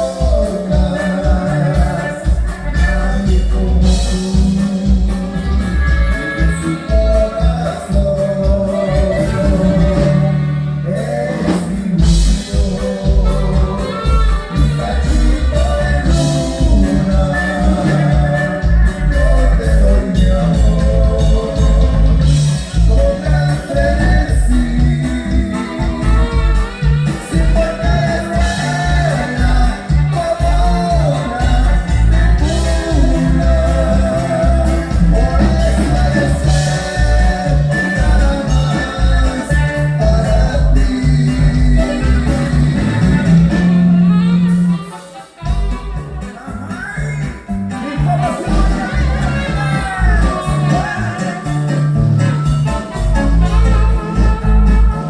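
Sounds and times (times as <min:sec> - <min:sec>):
band music with singer: 0:00.0 - 0:55.0
pulsing bass line: 0:00.0 - 0:55.0.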